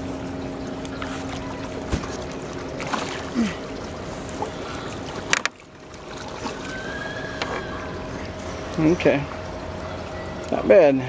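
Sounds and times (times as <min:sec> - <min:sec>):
water around boat: 0:00.0 - 0:11.0
wind: 0:00.0 - 0:11.0.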